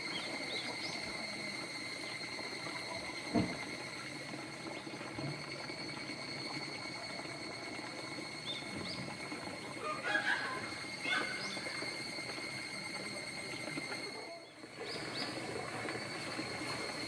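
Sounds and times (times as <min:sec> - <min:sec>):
insects singing: 0:00.0 - 0:17.0.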